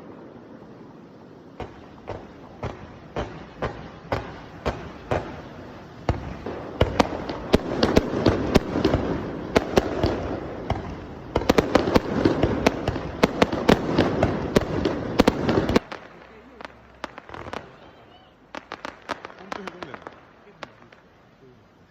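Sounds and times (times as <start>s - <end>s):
fireworks cracking: 0.0s - 21.9s
dense crackle: 1.6s - 21.6s.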